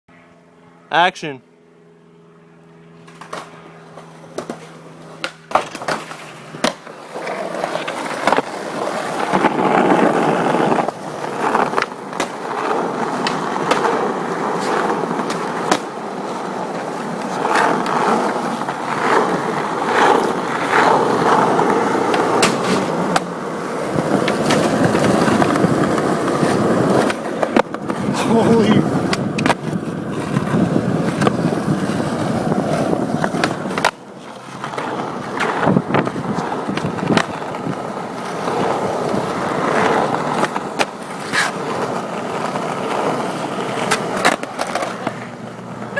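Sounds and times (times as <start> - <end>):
skateboard wheels rolling: 3.0 - 45.9
skateboard clacks: 3.1 - 28.2, 28.8 - 45.9.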